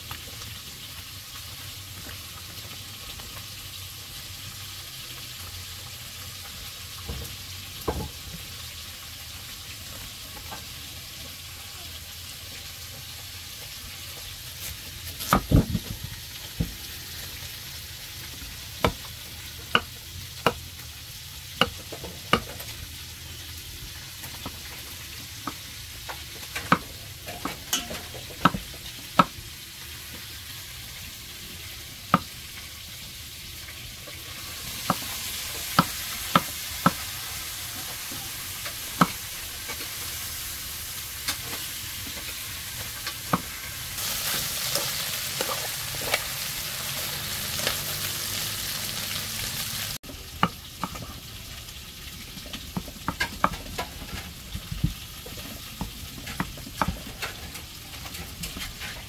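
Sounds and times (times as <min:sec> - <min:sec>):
meat sizzling in a pot: 0:00.0 - 0:59.0.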